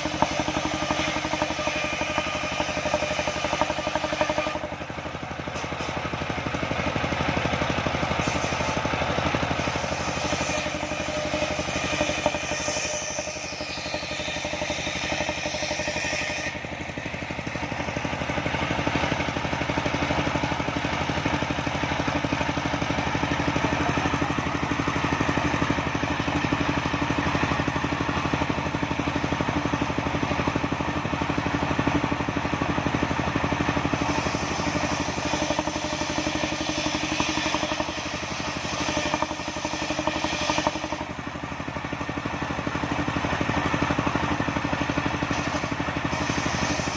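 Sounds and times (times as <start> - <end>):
circular saw whine: 0.0 - 46.9
engine running: 0.0 - 46.9.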